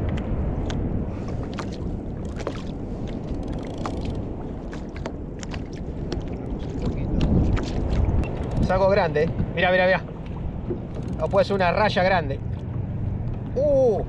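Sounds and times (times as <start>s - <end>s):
waves lapping against kayak hull: 0.0s - 13.6s
water splashes: 0.0s - 13.9s
wind rumble on microphone: 0.0s - 14.0s.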